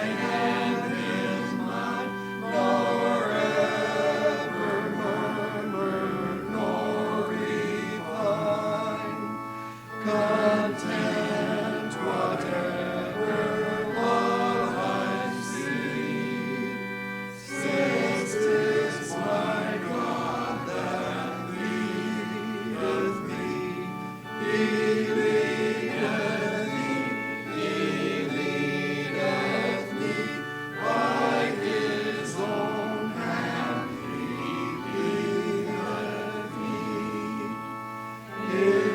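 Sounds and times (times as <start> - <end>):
group singing a hymn: 0.0 - 38.9
held instrumental chords: 0.0 - 38.9.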